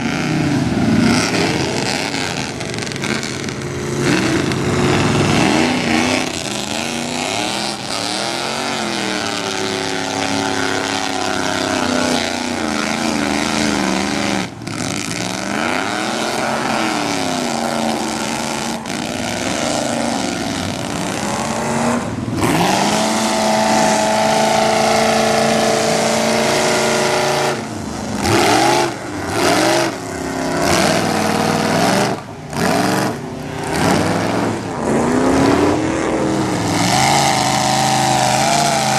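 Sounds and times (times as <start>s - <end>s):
truck engines revving: 0.0s - 38.9s.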